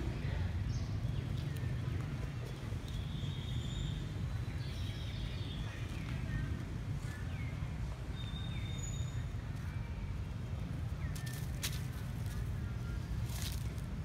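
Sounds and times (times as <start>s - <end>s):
bird calls and chirps: 0.3s - 13.7s.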